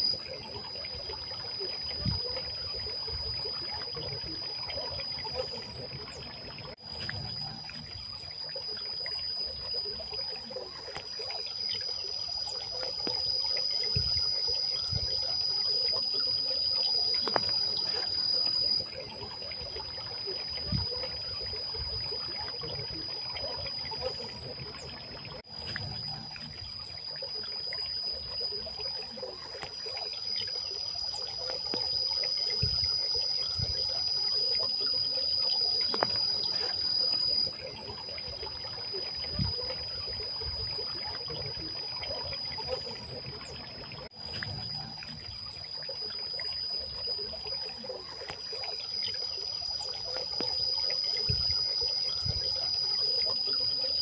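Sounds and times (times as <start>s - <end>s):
fountain water trickling and splashing: 0.0s - 54.0s.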